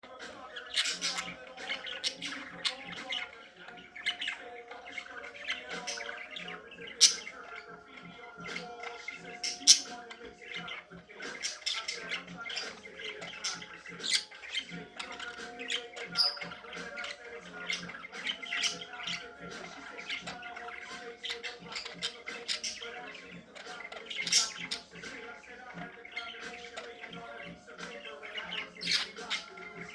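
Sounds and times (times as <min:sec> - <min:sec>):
budgerigars chattering and chirping: 0:00.0 - 0:29.9.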